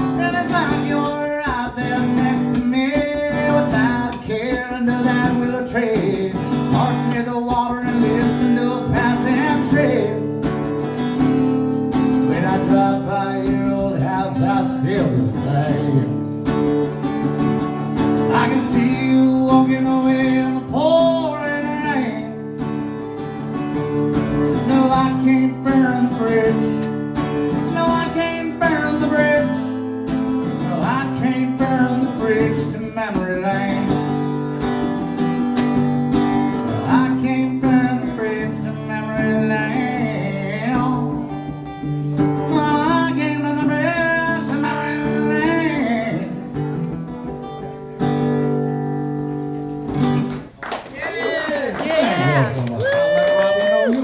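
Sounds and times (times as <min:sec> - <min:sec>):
strummed acoustic guitar: 0:00.0 - 0:50.6.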